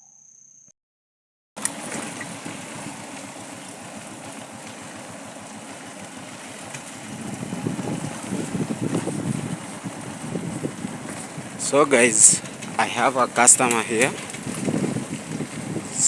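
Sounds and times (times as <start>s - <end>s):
motorcycle engine idling: 1.6s - 16.0s.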